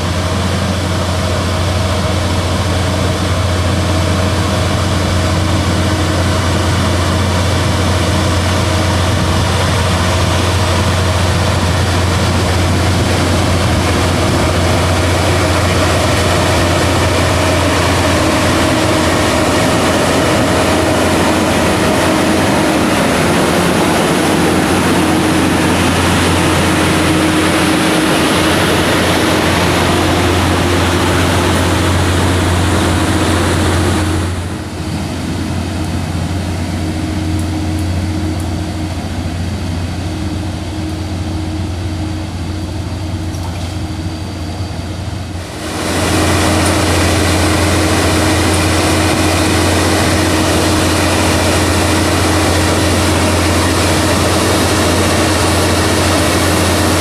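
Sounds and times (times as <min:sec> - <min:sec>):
heavy diesel engine drone: 0:00.0 - 0:57.0
thin engine whine: 0:00.0 - 0:57.0.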